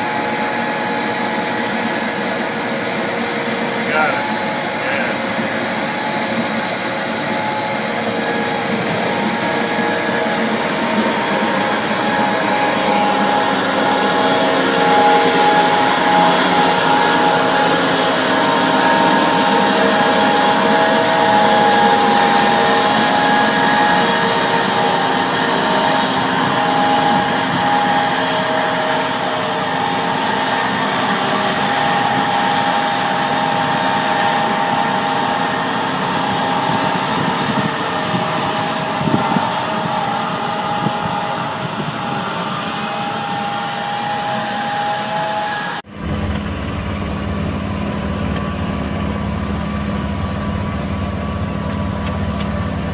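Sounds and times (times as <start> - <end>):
deep engine hum: 0.0 - 42.6, 45.8 - 52.9
machine whirring with high whine: 0.0 - 52.9.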